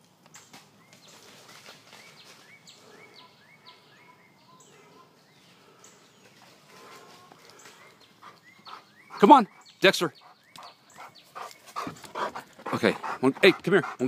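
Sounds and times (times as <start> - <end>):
distant bird chirps: 0.2 - 13.2.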